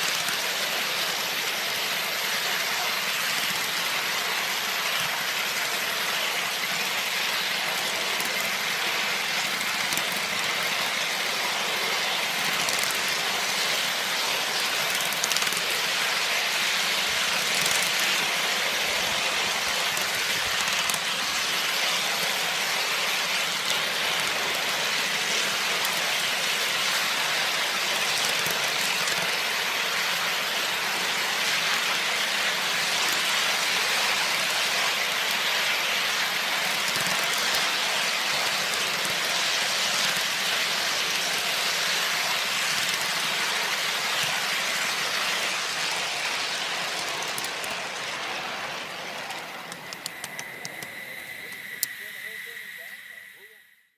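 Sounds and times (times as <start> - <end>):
steam hissing: 0.0 - 53.8
steam locomotive running: 0.0 - 53.8.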